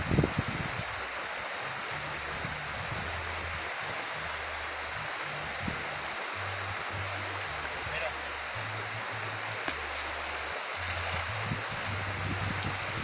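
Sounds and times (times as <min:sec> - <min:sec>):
low rumble on microphone: 0:00.0 - 0:13.0
river water flowing: 0:00.0 - 0:13.0.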